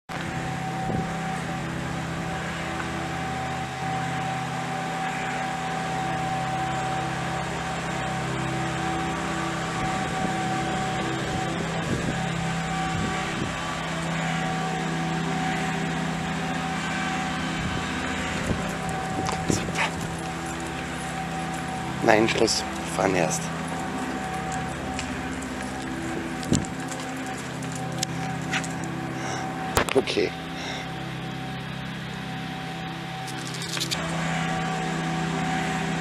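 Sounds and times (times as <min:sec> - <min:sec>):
machine humming: 0:00.1 - 0:36.0.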